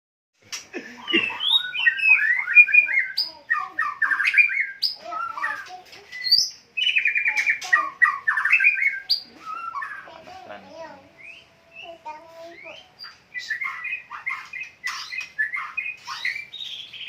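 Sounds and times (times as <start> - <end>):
bird singing whistles and trills: 1.0 - 10.2, 11.2 - 17.0.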